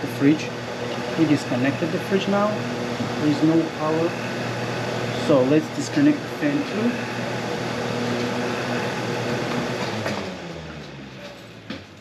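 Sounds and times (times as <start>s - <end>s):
electric fan blowing: 0.0s - 12.0s.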